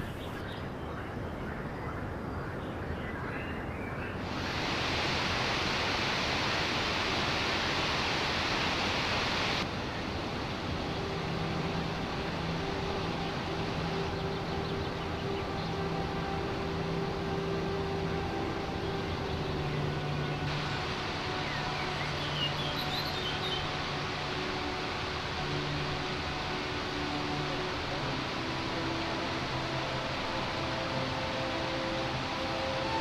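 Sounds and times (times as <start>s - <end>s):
river water rushing: 4.2s - 33.0s.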